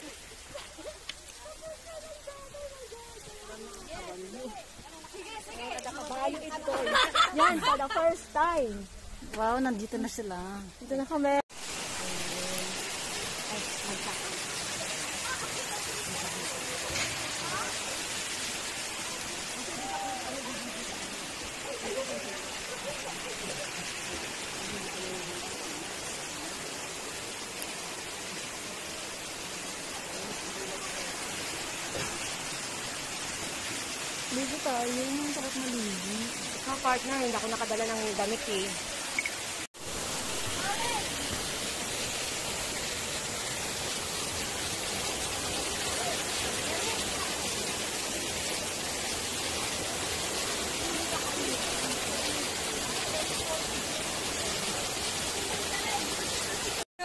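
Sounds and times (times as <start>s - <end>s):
waterfall rushing over rocks: 0.0s - 56.9s.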